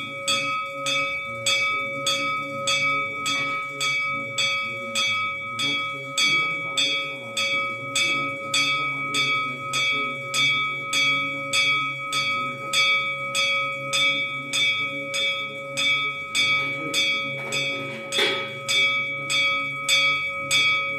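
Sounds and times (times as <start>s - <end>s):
bell struck repeatedly: 0.0s - 20.9s.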